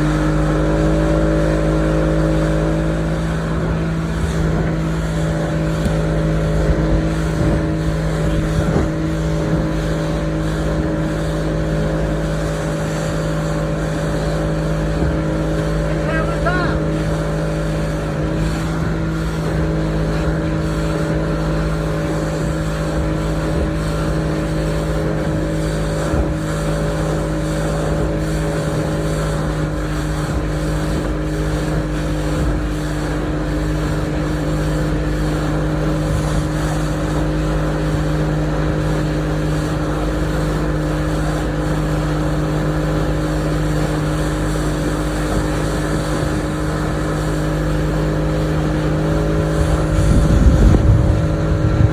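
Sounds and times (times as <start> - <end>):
motorboat engine running: 0.0 - 51.9
water noise: 0.0 - 51.9
wind: 0.0 - 51.9.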